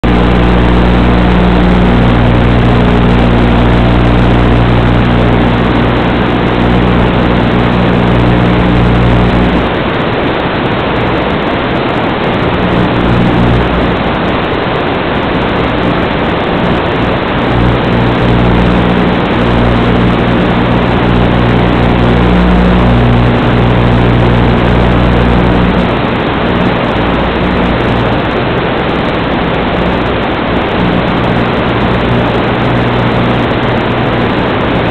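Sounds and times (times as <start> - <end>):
low electronic hum: 0.0 - 10.0, 12.0 - 14.6, 15.2 - 34.9
static hiss: 0.0 - 34.9.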